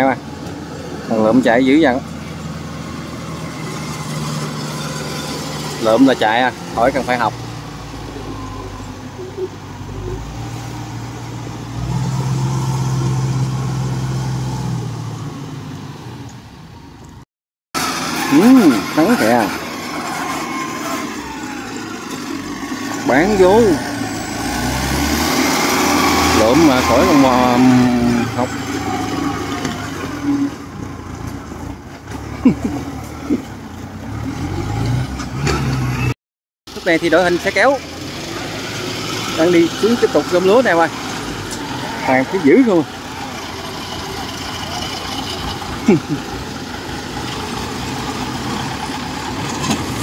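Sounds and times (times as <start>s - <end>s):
tracked vehicle engine passing: 0.0s - 16.2s, 17.8s - 50.0s.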